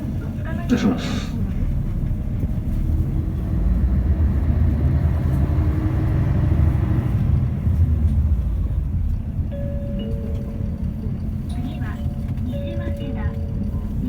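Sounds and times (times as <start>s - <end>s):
bus engine rumble and road noise: 0.0s - 14.0s.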